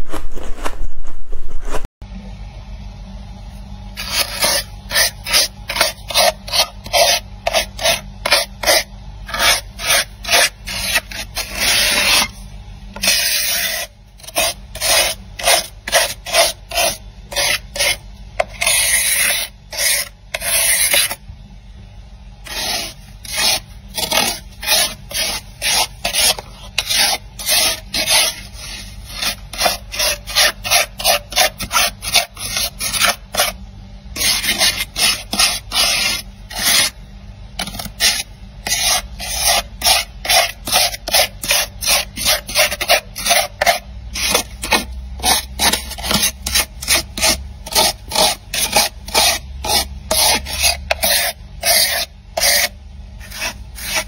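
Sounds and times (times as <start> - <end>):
frost scraped off freezer walls: 4.0 - 21.2, 22.4 - 37.0, 37.6 - 54.0.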